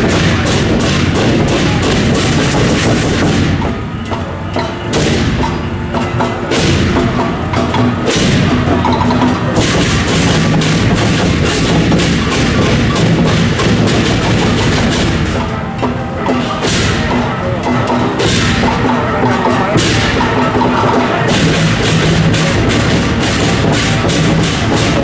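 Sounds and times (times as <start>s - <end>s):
drums beaten in fast rhythm: 0.0s - 25.0s
ringing pitched tones: 0.0s - 25.0s.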